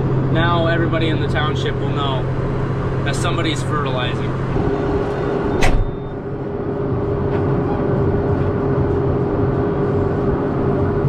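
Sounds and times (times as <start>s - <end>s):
constant whine: 0.0s - 11.0s
tractor engine hum from cab: 0.0s - 11.0s.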